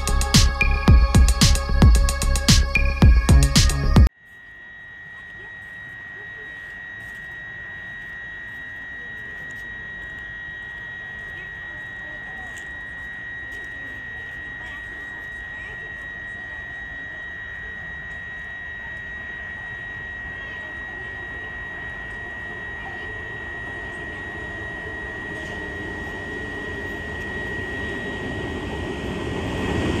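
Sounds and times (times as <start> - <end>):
high-pitched whine: 0.0 - 30.0.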